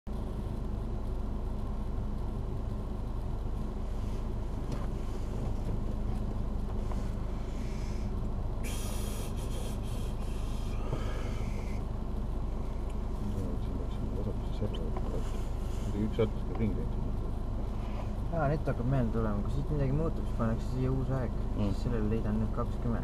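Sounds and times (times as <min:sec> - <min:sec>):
car engine idling: 0:00.1 - 0:23.0.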